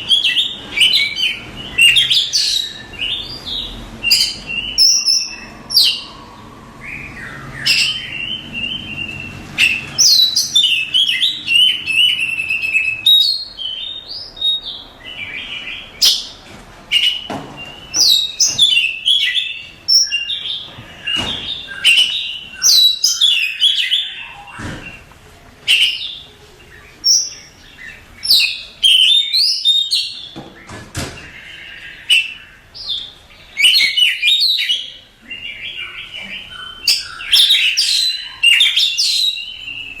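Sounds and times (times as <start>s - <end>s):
songbird whistles and trills: 0.0s - 25.0s, 27.0s - 30.4s, 31.4s - 40.0s.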